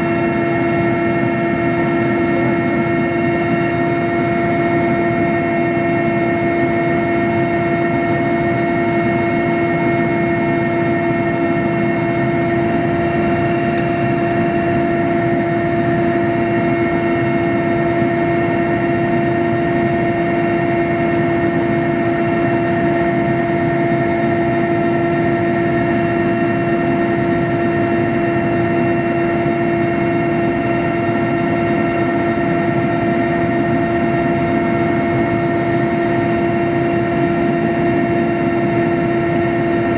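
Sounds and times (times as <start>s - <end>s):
aircraft engines droning: 0.0s - 39.9s.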